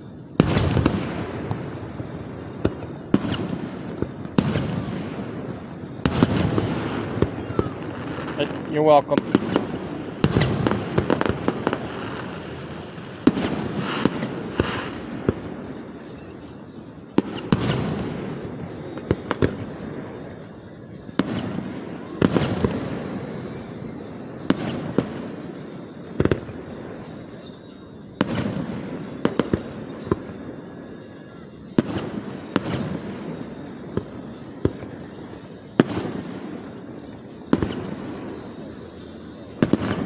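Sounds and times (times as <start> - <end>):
crackling firework pops: 0.0 - 40.0
firework shells bursting: 0.0 - 40.0.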